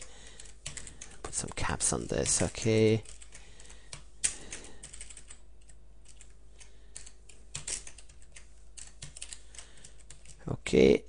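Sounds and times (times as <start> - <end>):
keyboard typing: 0.0 - 10.4.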